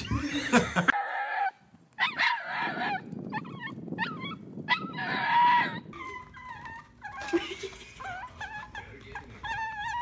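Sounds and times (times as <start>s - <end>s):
dog whining: 0.9s - 10.0s.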